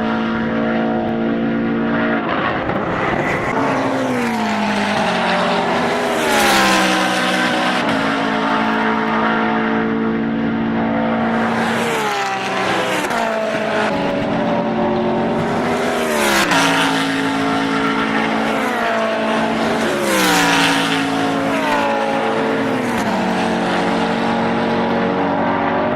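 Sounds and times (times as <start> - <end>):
race cars passing at speed: 0.0 - 25.9.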